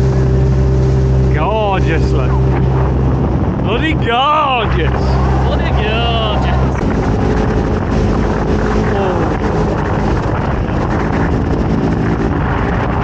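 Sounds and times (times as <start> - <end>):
motorboat engine drone: 0.0 - 13.0
water rushing from hull: 0.0 - 13.0
wind buffeting microphone: 0.0 - 13.0.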